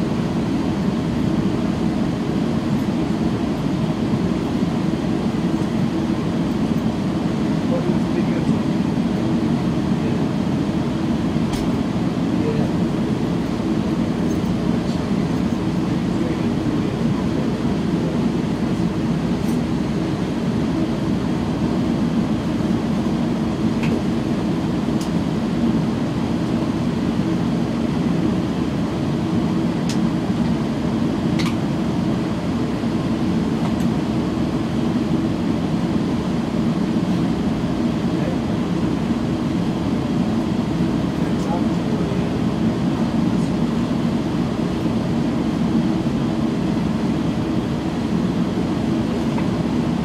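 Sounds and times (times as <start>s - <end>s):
train rumble from inside: 0.0s - 50.0s.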